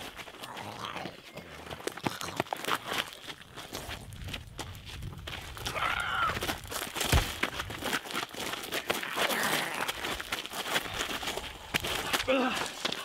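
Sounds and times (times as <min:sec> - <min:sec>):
footsteps crunching on gravel: 0:00.0 - 0:13.0.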